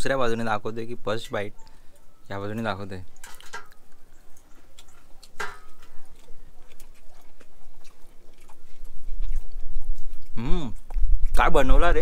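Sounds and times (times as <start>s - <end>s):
person chewing: 1.6s - 11.8s.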